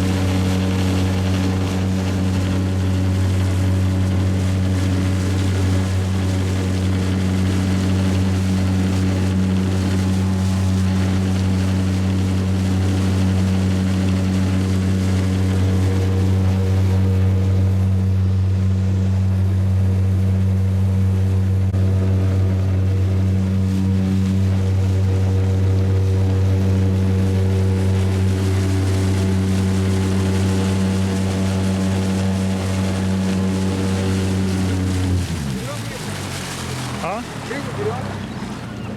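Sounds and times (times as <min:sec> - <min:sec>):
boat motor humming: 0:00.0 - 0:38.9.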